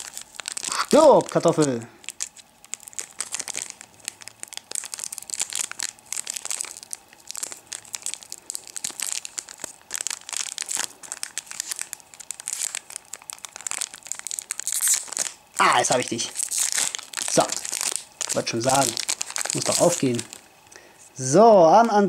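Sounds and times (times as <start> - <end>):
foil wrapper crinkling: 0.0 - 20.9.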